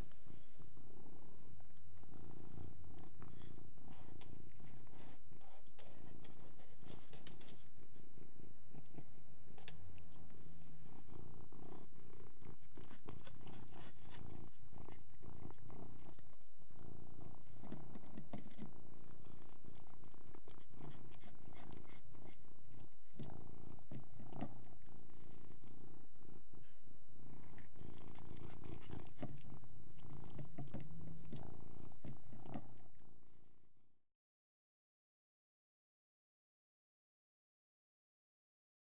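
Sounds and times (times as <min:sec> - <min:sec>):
cat purring: 0:00.0 - 0:33.9.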